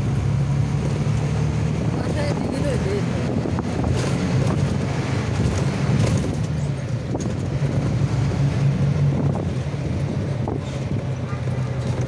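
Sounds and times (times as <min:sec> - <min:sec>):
vehicle engine humming: 0:00.0 - 0:12.0
wind noise on microphone: 0:00.0 - 0:12.0.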